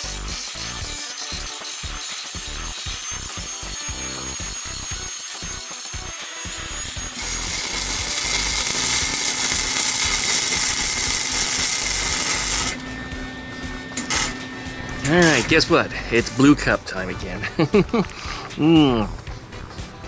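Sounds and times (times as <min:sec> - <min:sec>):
angle grinder cutting steel: 0:00.0 - 0:18.4
welder crackling: 0:00.0 - 0:18.7.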